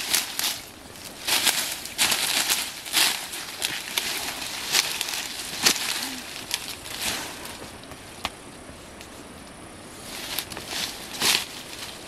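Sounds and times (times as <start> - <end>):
dry grass and leaves crackling: 0.0 - 12.0
faint steady hiss: 0.0 - 12.0.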